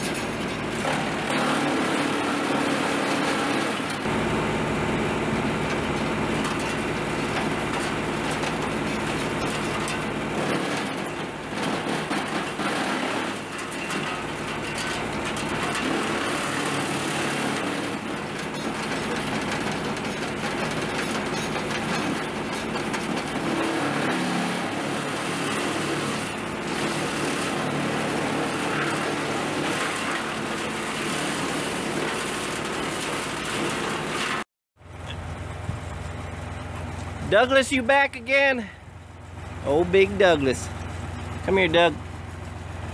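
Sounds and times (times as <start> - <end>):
tractor engine under load: 0.0 - 42.9
wood chipper chewing branches: 0.0 - 42.9.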